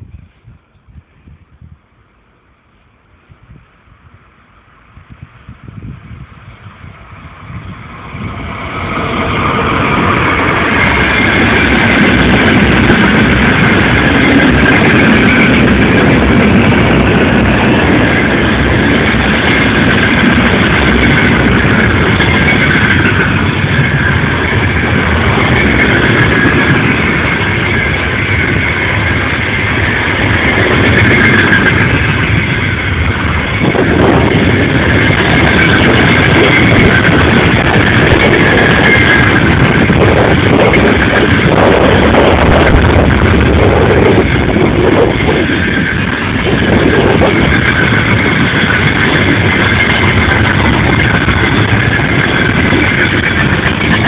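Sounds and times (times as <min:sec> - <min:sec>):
freight train wheels on rail: 0:00.0 - 0:54.0.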